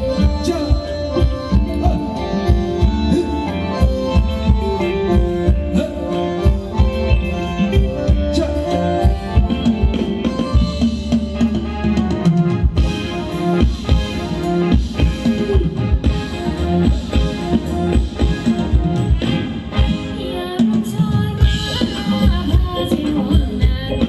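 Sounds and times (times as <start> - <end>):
live band playing dance music: 0.0 - 24.0.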